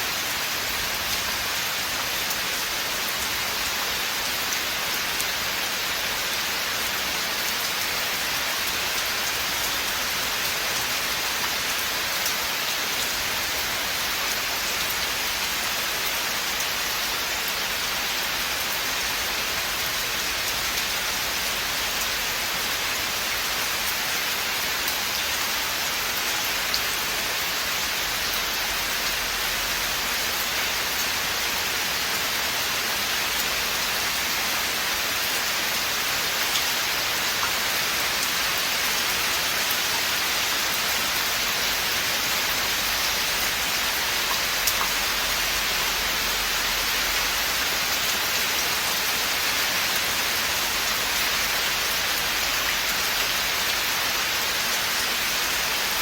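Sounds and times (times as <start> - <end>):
rain falling on forest: 0.0 - 56.0.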